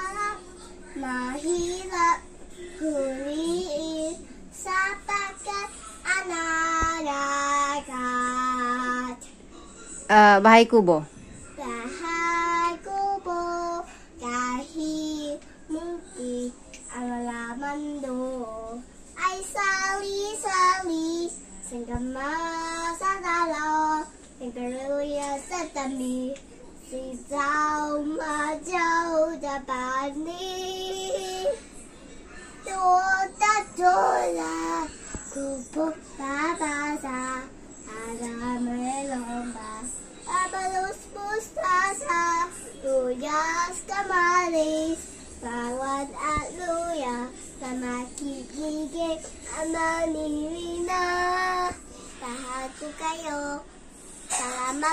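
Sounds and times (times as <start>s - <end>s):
girl singing unaccompanied: 0.0s - 9.4s, 11.4s - 31.7s, 32.6s - 54.9s.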